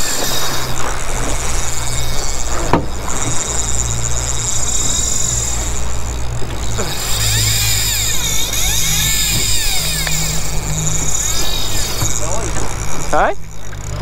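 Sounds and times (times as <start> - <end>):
boat engine running: 0.0 - 14.0
water rushing along hull: 0.0 - 14.0.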